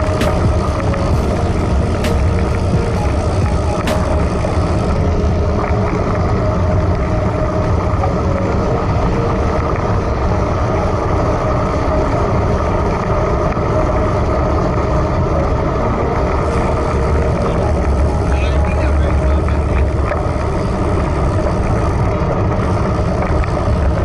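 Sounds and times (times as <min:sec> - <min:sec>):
wind rumble on microphone: 0:00.0 - 0:24.0
wind rush and tyre noise: 0:00.0 - 0:24.0.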